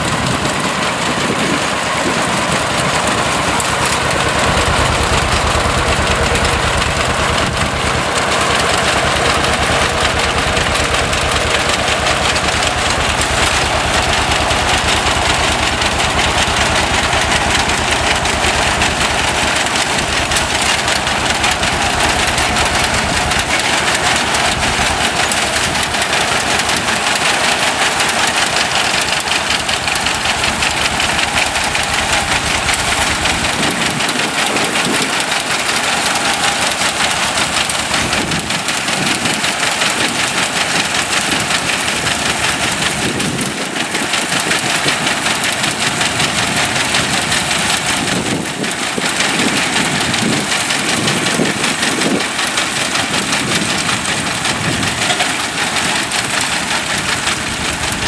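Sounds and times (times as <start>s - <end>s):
grain binder mechanism working: 0.0s - 58.0s
tractor engine running: 0.0s - 58.0s.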